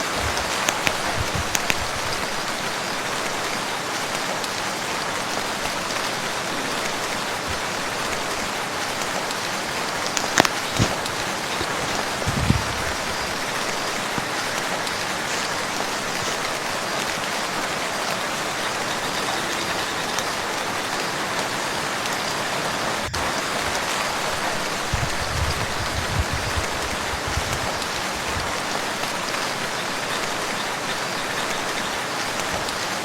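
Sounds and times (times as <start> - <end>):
rain falling on water: 0.0 - 33.0.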